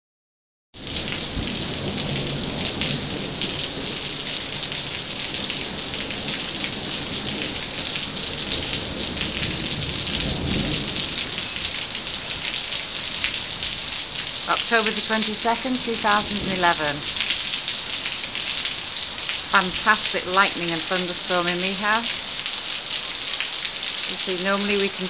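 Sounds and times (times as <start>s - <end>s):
thunder rumbles: 0.8s - 22.5s
heavy rain pouring: 0.8s - 25.0s.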